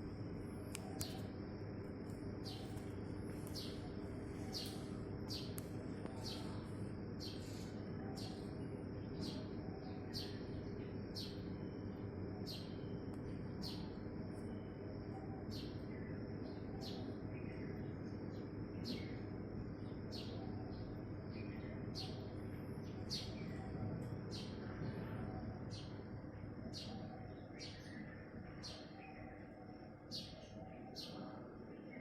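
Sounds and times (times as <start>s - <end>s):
low background hum: 0.0s - 32.0s
small birds chirping: 0.3s - 32.0s.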